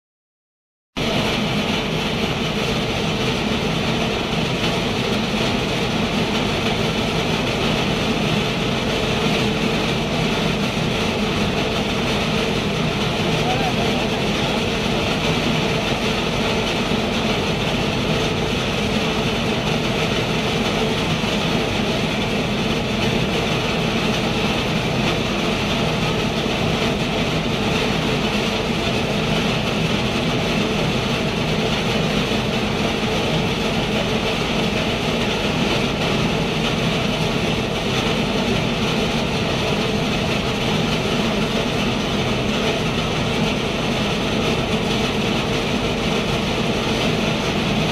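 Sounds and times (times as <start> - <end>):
mill humming and hissing: 1.0 - 47.9.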